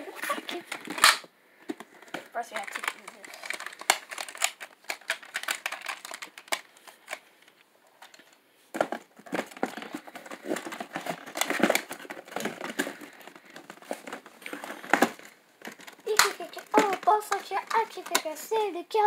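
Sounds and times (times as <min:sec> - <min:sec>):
toy packaging crinkling: 0:00.0 - 0:19.0.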